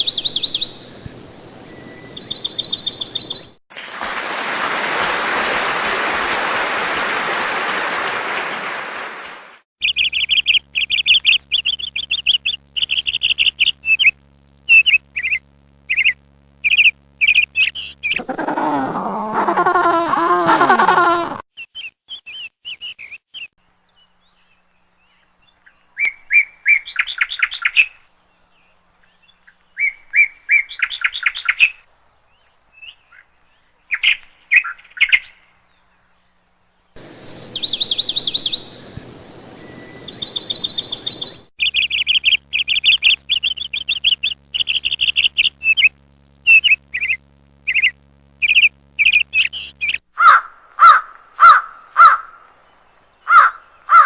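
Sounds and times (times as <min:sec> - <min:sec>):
small birds chirping: 0:00.0 - 0:03.6, 0:09.8 - 0:50.0.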